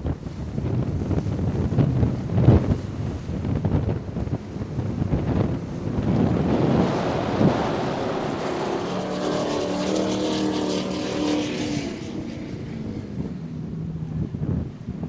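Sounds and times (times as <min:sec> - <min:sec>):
wind buffeting microphone: 0:00.0 - 0:15.0
motorboat engine passing: 0:01.0 - 0:15.0.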